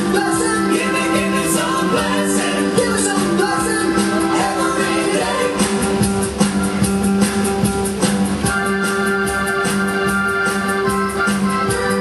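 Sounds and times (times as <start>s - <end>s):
drums: 0.0s - 12.0s
organ chords: 0.0s - 12.0s.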